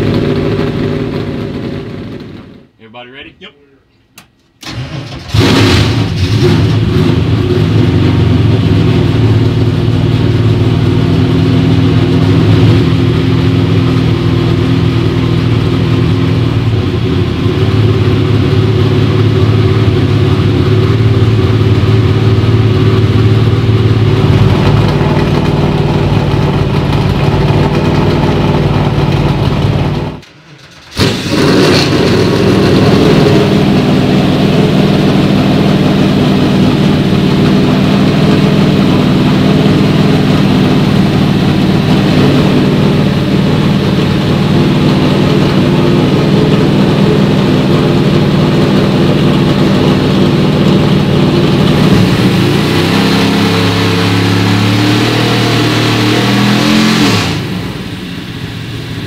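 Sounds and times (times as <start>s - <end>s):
race car engine running loud: 0.0s - 2.7s, 5.1s - 59.0s.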